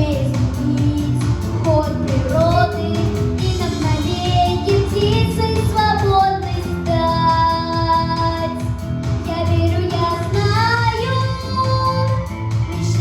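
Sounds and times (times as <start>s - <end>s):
girl singing: 0.0s - 13.0s
pop backing track with beat: 0.0s - 13.0s.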